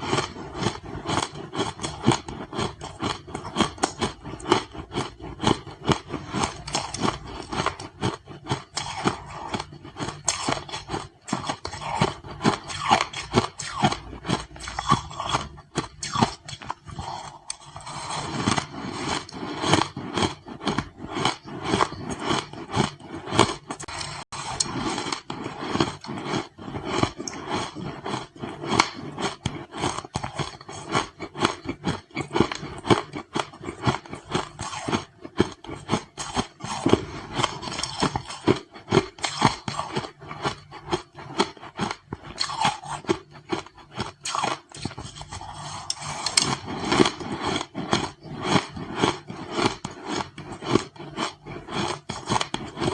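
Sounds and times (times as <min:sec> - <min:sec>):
ice crunching while chewed: 0:00.0 - 0:52.9.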